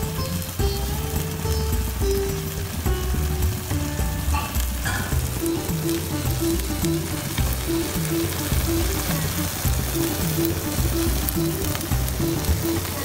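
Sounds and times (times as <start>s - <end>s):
background music with bass line: 0.0s - 13.0s
food sizzling and crackling: 0.0s - 13.0s.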